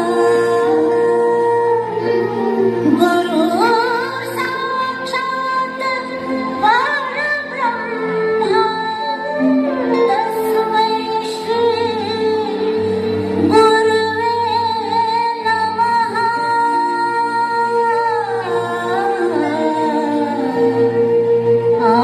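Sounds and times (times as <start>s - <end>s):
woman singing slow melody: 0.0s - 22.0s.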